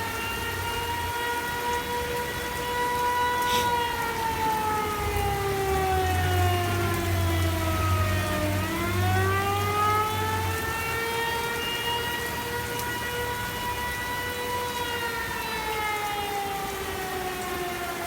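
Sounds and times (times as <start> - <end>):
warning siren wailing: 0.0 - 18.0.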